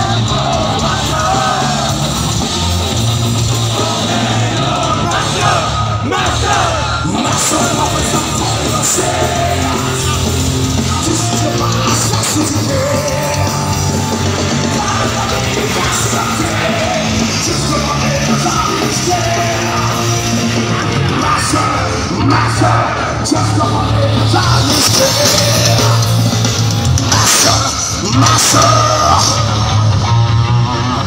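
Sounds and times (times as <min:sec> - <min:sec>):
singer shouting vocals: 0:00.0 - 0:02.2, 0:03.7 - 0:26.3, 0:27.0 - 0:30.0
bass guitar: 0:00.0 - 0:31.0
distorted electric guitars: 0:00.0 - 0:31.0
drums: 0:00.0 - 0:31.0.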